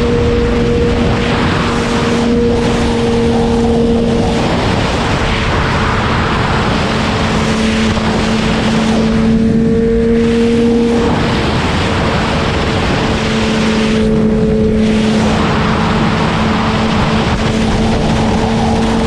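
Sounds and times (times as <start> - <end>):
motorcycle engine at speed: 0.0 - 19.0
wind and road noise: 0.0 - 19.0.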